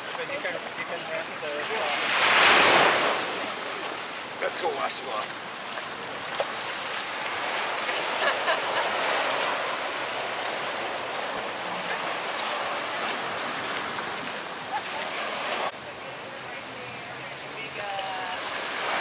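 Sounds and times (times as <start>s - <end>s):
waves washing onto sandy beach: 0.0s - 19.0s.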